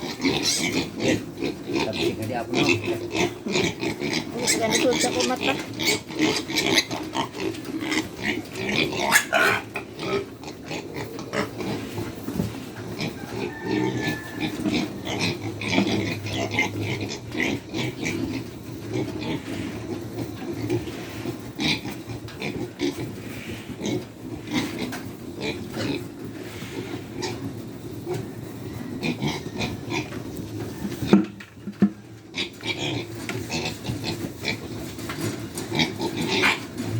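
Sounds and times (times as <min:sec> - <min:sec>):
pigs grunting: 0:00.0 - 0:36.9.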